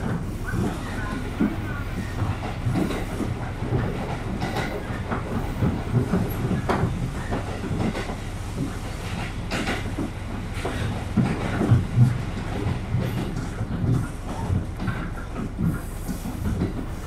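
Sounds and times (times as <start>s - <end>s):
train low rumble: 0.0s - 17.0s
wheels clacking on rails: 0.0s - 17.0s.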